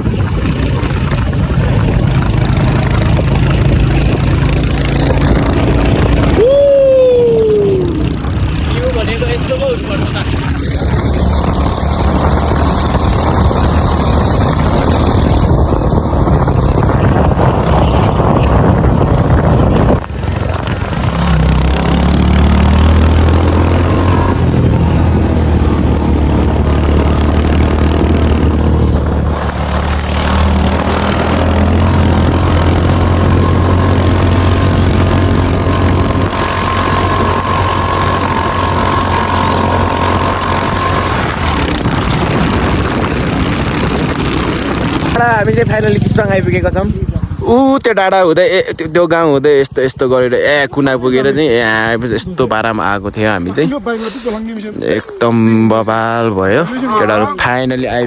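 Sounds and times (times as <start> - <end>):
wind rushing noise: 0.0 - 48.8
motorcycle engine running: 0.0 - 58.0.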